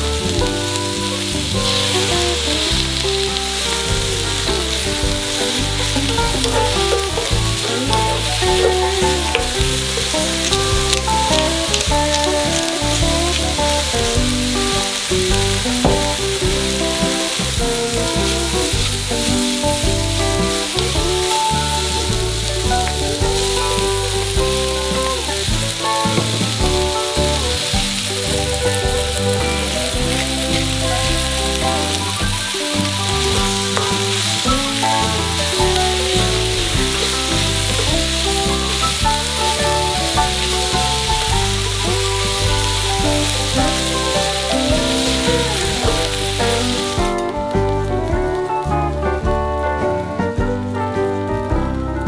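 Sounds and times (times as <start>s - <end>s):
food sizzling in a wok: 0.0s - 49.3s.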